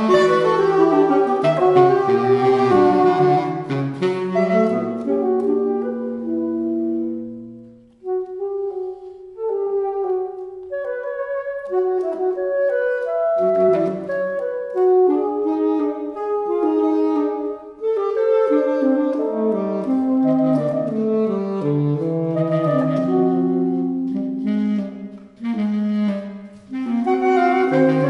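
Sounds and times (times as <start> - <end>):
saxophone trio playing: 0.0 - 28.0.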